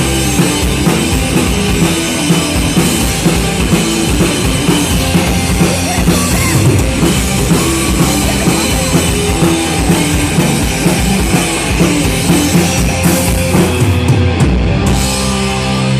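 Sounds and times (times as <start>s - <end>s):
drum kit: 0.0s - 15.9s
live rock band playing: 0.0s - 15.9s.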